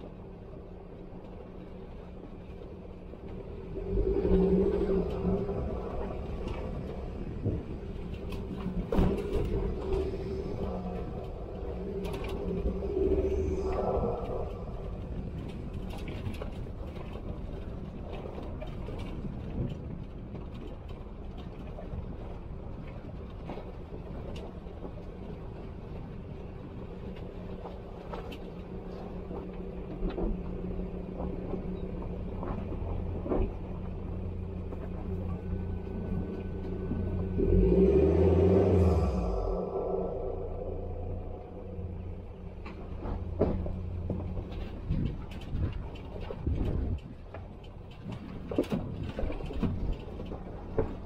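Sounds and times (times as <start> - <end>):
car engine hum: 0.0 - 51.0.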